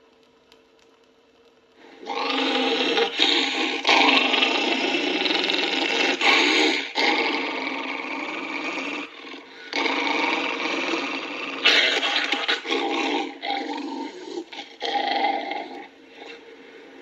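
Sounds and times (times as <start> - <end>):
small dog snarling and growling: 1.9 - 17.0.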